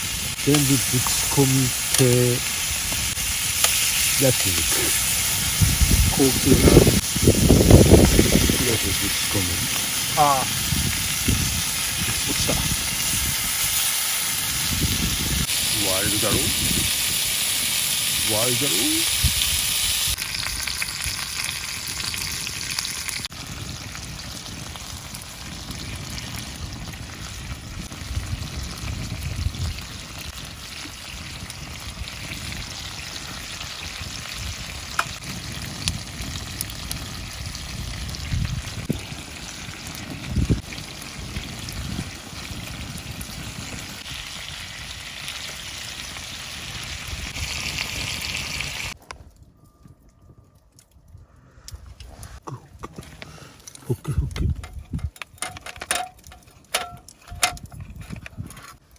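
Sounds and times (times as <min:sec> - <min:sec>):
meat sizzling in a pan: 0:00.0 - 0:49.0.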